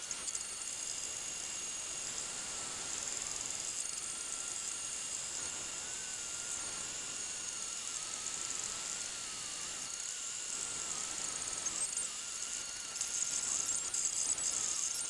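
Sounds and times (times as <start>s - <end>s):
stepper motor whine: 0.0s - 15.0s.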